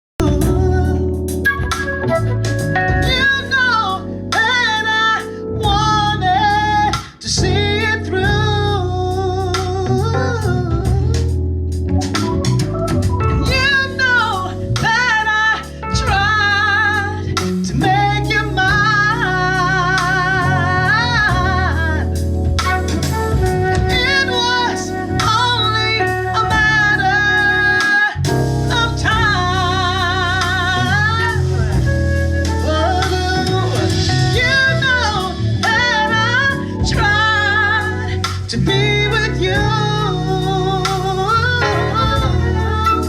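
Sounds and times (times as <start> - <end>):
band accompaniment with bass: 0.0 - 43.0
woman singing with vibrato: 2.8 - 11.2, 13.4 - 43.0.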